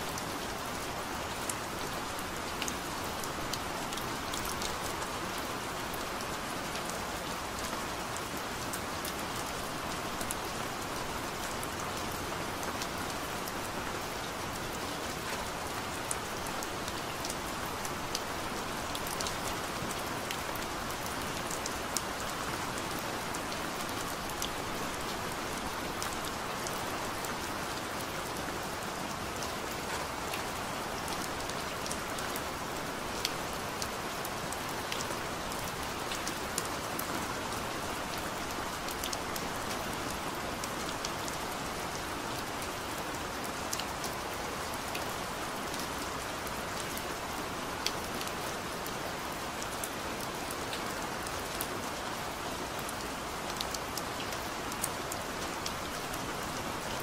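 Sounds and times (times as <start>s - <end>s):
gentle rain hissing: 0.0s - 57.0s.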